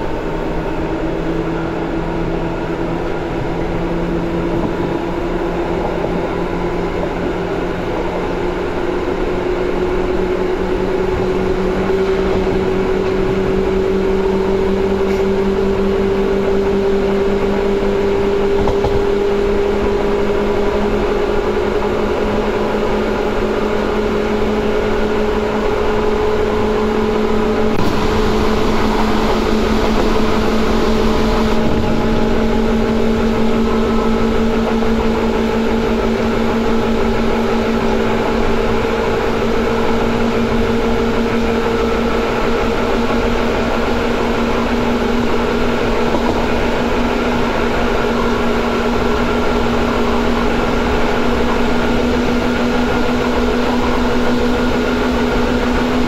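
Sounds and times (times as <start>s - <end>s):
train motor whine: 0.0s - 56.0s
wheel and rail noise: 0.0s - 56.0s.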